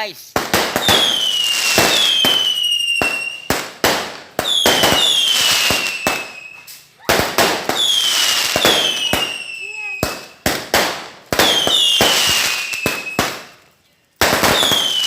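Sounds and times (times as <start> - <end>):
fireworks bangs and crackles: 0.1 - 15.0
fireworks whistling: 0.4 - 15.0.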